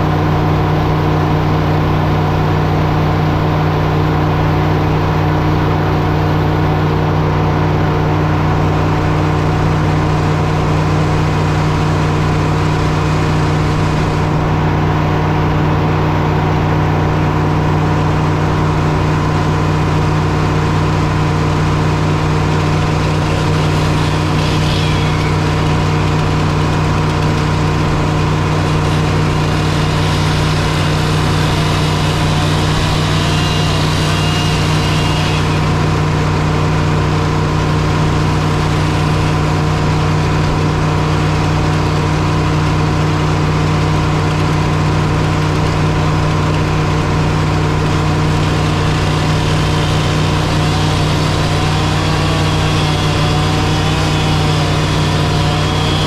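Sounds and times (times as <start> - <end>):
heavy engine humming: 0.0 - 56.0.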